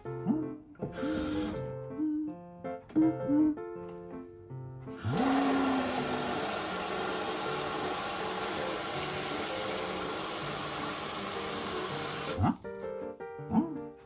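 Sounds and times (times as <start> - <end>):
quiet background music: 0.0 - 5.1, 6.1 - 14.0.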